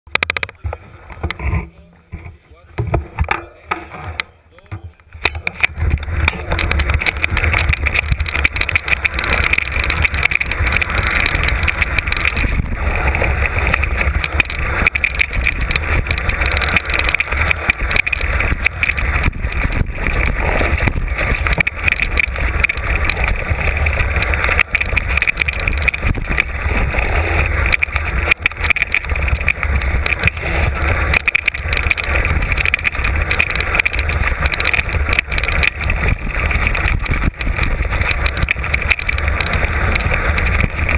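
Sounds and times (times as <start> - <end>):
bike rattling and knocking: 0.1 - 40.9
wind rumble on microphone: 4.8 - 40.9.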